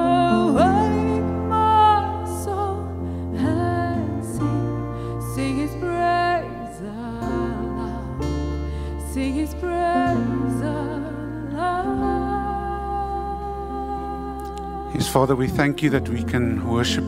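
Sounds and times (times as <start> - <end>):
woman singing with vibrato: 0.0 - 14.9
band sustained chords: 0.0 - 17.0.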